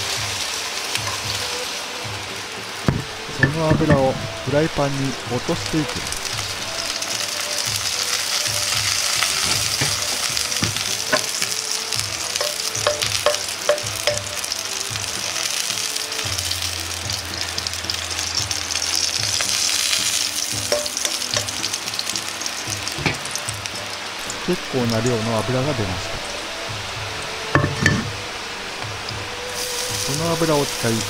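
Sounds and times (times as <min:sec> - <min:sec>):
oil sizzling in a frying pan: 0:00.0 - 0:31.0.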